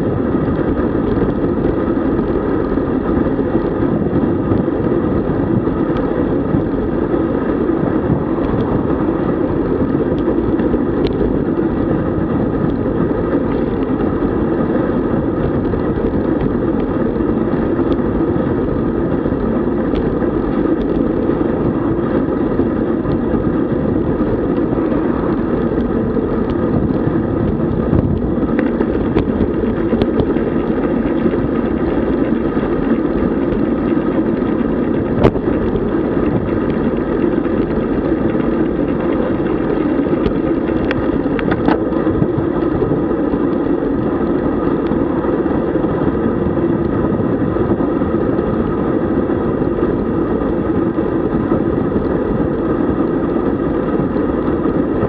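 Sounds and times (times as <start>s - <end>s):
bicycle road noise: 0.0s - 55.0s
wind on microphone: 0.0s - 55.0s.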